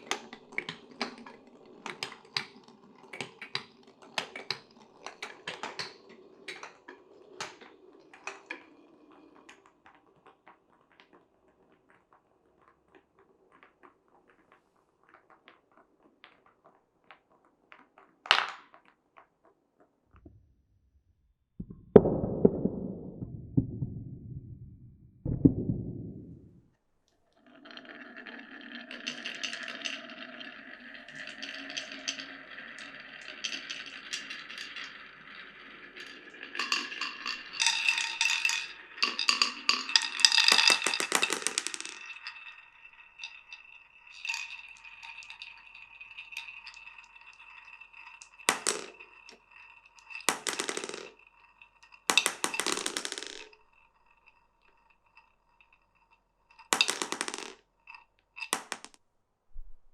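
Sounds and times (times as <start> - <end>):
marbles rumbling through wooden channels: 0.0 - 19.6, 21.6 - 26.6, 27.4 - 59.0
marbles rolling and rattling: 0.0 - 20.3, 27.3 - 59.0.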